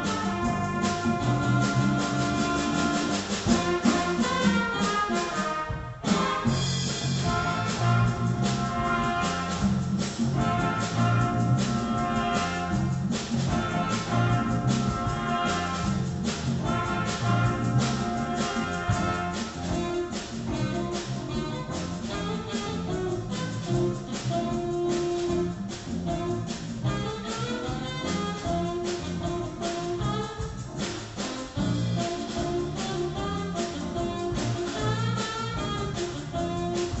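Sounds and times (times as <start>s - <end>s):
school band playing: 0.0s - 37.0s.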